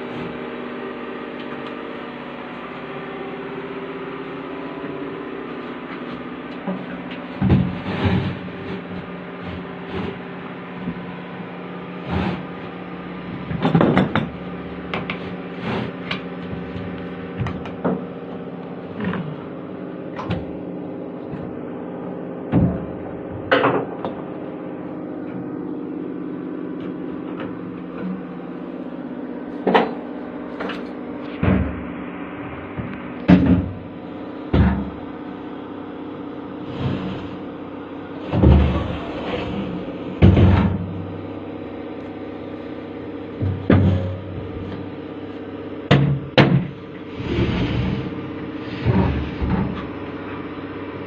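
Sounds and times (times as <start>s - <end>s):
low machine hum: 0.0s - 51.0s.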